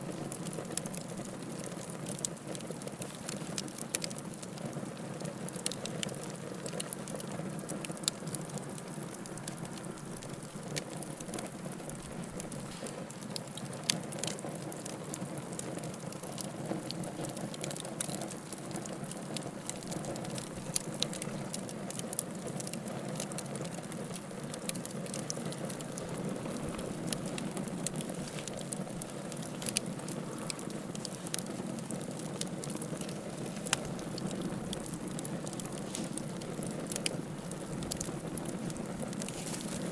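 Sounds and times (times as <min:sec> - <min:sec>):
fire burning with crackles: 0:00.0 - 0:39.9.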